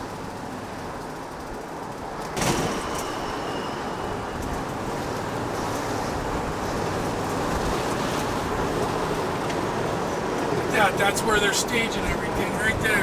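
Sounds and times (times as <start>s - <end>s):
vehicle road and tyre noise: 0.0s - 13.0s.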